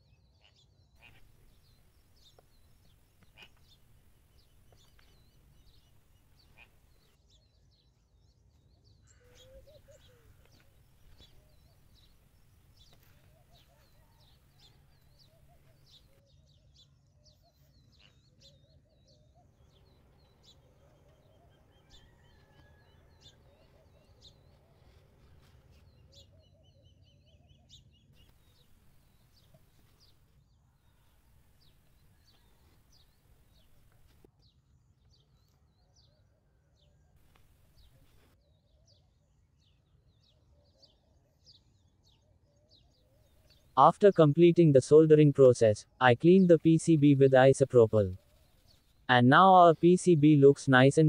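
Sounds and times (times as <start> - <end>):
faint birdsong chirps: 0.0 - 51.0.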